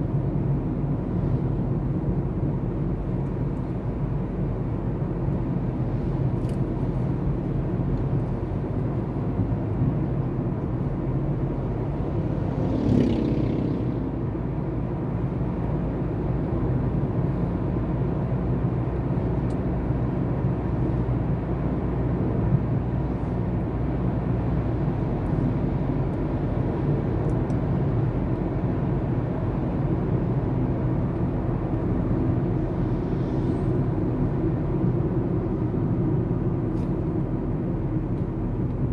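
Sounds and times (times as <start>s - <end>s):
road vehicle engine and road noise: 0.0s - 38.9s.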